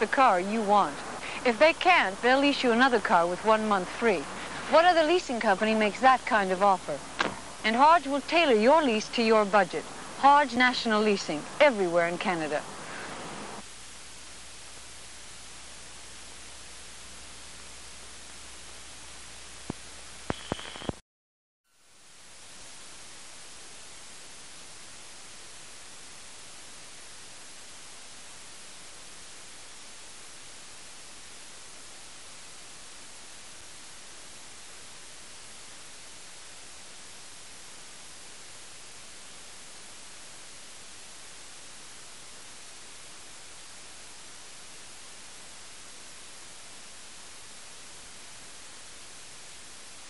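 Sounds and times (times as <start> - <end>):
videotape hiss: 0.0 - 21.0, 21.7 - 50.0.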